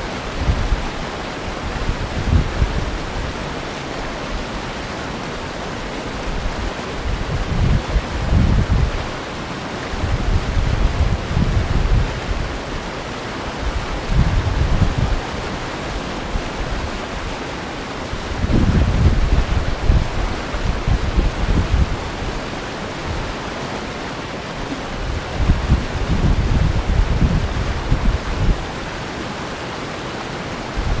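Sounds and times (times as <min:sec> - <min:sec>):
wind buffeting the microphone: 0:00.0 - 0:04.5, 0:05.4 - 0:09.2, 0:09.8 - 0:29.9, 0:30.6 - 0:31.0
river rapids rushing: 0:00.0 - 0:31.0.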